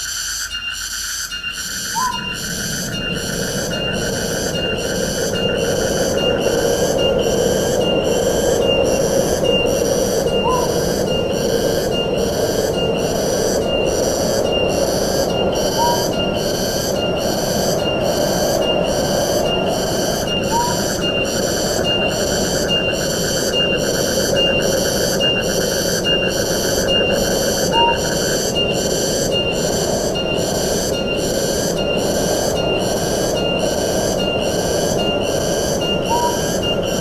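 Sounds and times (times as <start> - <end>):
pulsing insect call: 0.0 - 37.0.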